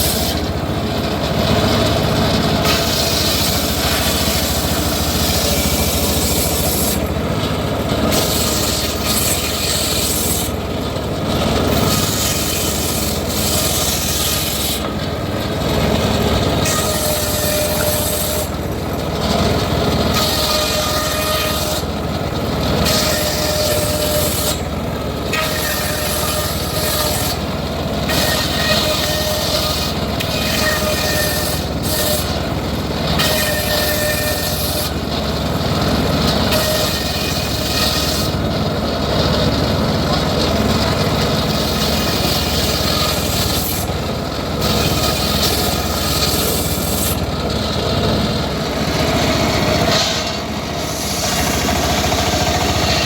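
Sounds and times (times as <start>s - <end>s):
machine hum: 0.0s - 53.0s
saw blade cutting wood: 0.0s - 53.0s.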